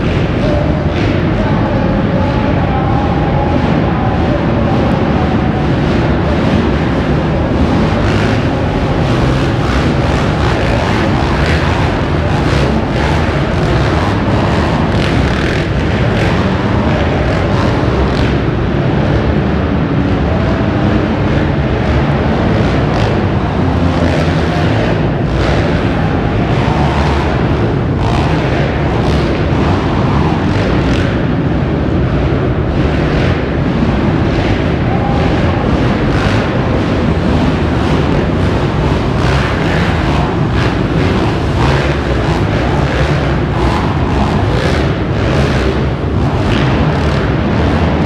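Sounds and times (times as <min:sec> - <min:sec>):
quad engines racing: 0:00.0 - 0:48.0.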